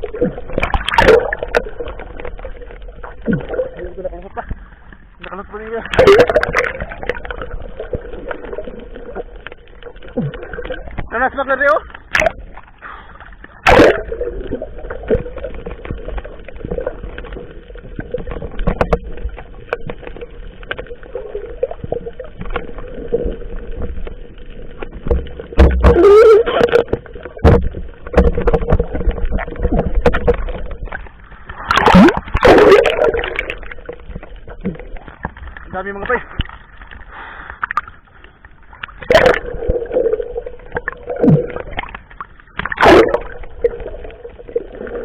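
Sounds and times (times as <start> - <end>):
water splashing around boat: 0.0 - 45.0.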